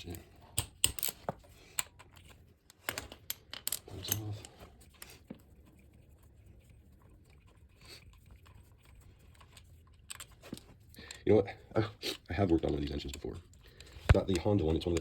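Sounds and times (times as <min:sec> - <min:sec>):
faint handling sounds: 0:00.0 - 0:15.0.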